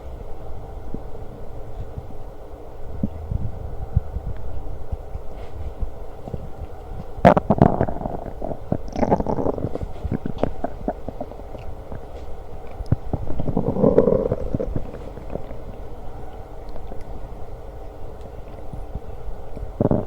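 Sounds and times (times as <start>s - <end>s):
stomach growling and gurgling: 2.9s - 20.0s.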